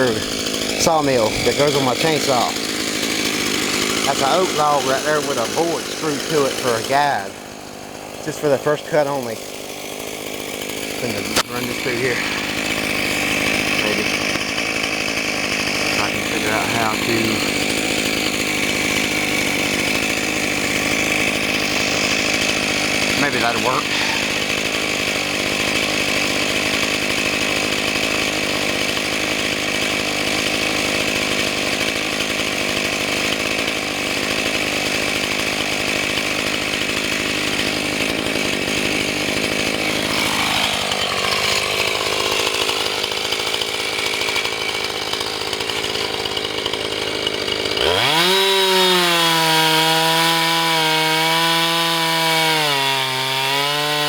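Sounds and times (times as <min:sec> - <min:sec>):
chainsaw cutting through a log: 0:00.0 - 0:54.0.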